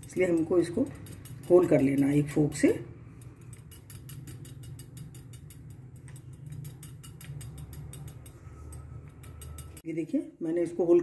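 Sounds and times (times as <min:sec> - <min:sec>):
fork pricking dough on stone: 0:00.0 - 0:09.8.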